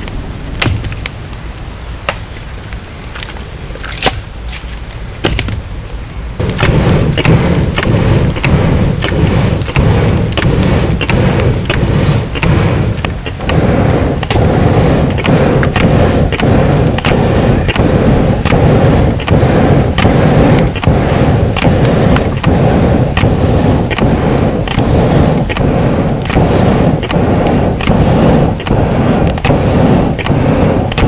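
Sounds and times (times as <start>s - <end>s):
rumbling rush of air: 0.0s - 31.0s
bellows valves clicking: 2.0s - 31.0s.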